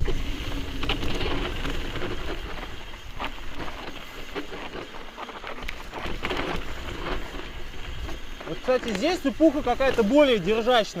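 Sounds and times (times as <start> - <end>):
wind noise on microphone: 0.0 - 10.3
bike clicks and rattles: 0.0 - 11.0
bike tyres rolling over stones: 0.0 - 11.0.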